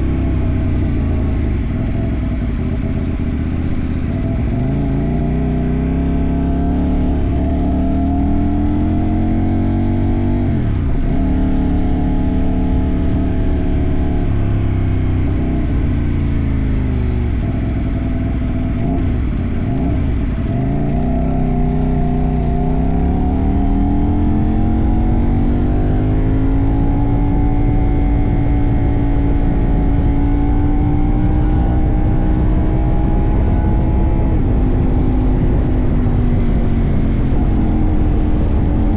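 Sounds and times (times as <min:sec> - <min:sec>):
low wind rumble: 0:00.0 - 0:38.9
motorcycle engine revving: 0:00.0 - 0:38.9.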